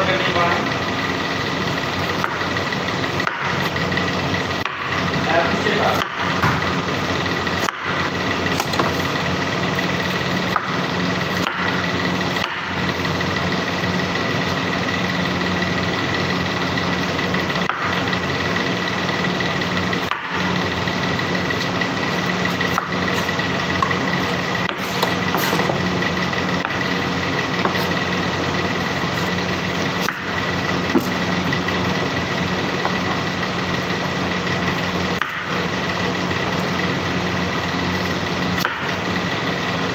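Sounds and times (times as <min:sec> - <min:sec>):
machinery whining and humming: 0:00.0 - 0:39.9.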